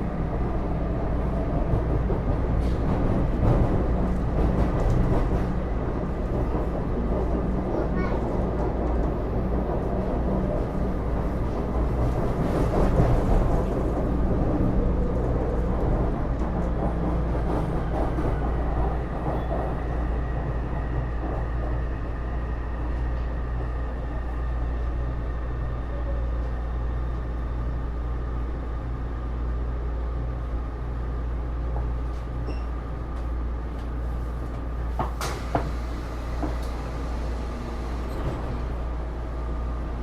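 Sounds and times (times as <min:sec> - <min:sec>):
train running rumble: 0:00.0 - 0:40.0.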